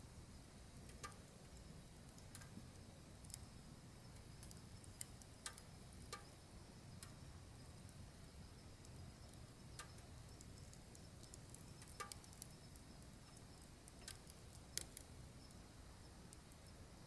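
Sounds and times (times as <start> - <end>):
wood fire crackling: 0.0 - 17.0
fire pops and snaps: 0.8 - 3.5, 4.1 - 17.0.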